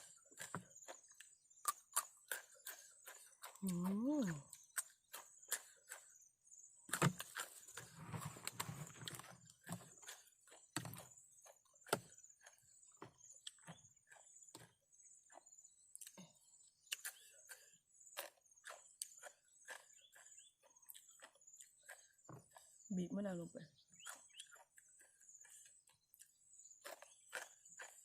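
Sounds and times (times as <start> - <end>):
eating crunches: 0.0 - 6.3, 6.9 - 12.6, 13.3 - 22.9, 24.0 - 28.0
crickets chirring: 0.0 - 28.0.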